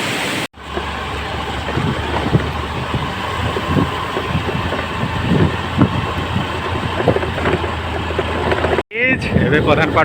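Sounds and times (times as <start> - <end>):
road and wind noise: 0.0 - 10.0
vehicle engine drone: 0.6 - 8.8.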